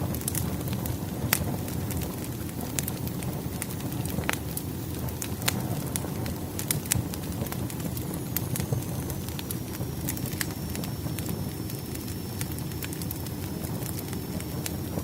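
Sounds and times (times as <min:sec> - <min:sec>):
crackles and pops of burning wood: 0:00.0 - 0:15.0
fire rumbling: 0:00.0 - 0:15.0.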